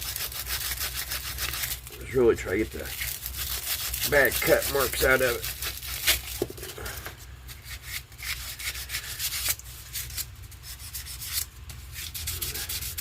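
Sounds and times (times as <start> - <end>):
sandpaper rubbing on wood: 0.0 - 1.8, 2.8 - 6.2, 7.8 - 13.0.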